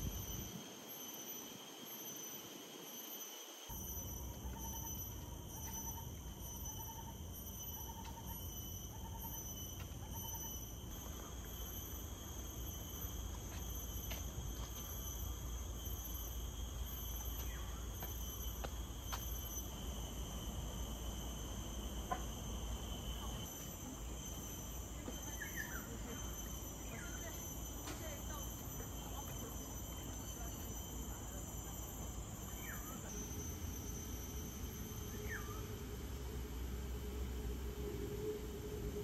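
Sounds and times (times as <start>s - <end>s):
high-pitched insect buzzing: 0.0s - 35.8s.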